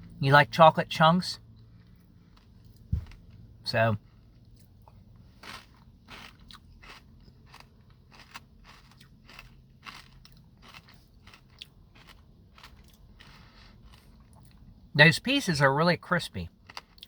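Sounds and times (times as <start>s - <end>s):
chewing crunchy ice cream: 1.4s - 14.8s, 16.5s - 17.0s.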